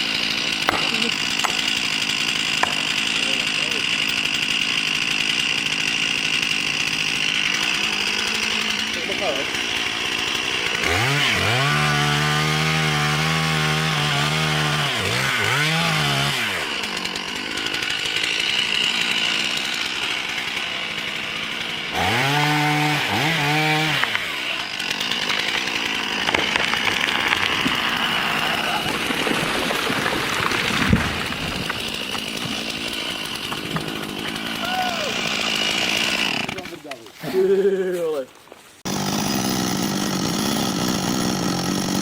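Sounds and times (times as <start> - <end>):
chainsaw revving: 0.0 - 37.9, 38.8 - 42.0.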